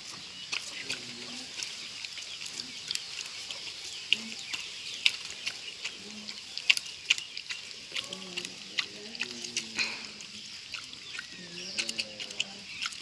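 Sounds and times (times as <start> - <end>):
dog chewing wetly: 0.5 - 13.0.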